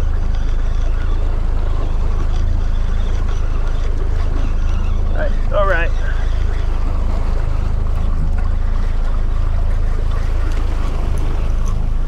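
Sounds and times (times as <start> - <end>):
outboard motor humming: 0.0 - 12.0
water rushing past hull: 0.0 - 12.0.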